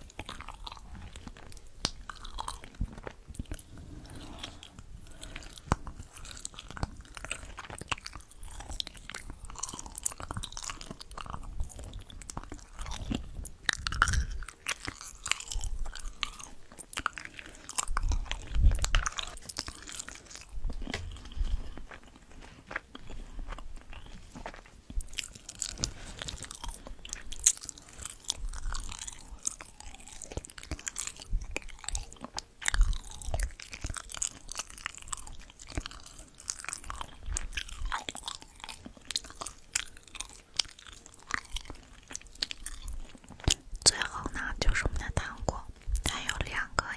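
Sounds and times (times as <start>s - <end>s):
chewing crunchy food: 0.0s - 46.9s.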